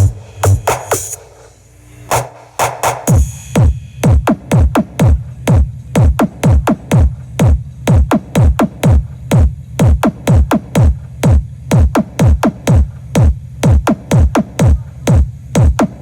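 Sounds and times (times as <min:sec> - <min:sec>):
loud electronic dance music: 0:00.0 - 0:01.4, 0:02.1 - 0:16.0
heavy drum-machine kick: 0:00.0 - 0:01.5, 0:02.1 - 0:16.0.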